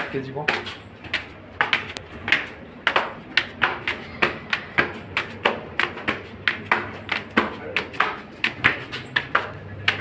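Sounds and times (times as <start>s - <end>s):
sandals slapping on stone stairs: 0.0s - 10.0s.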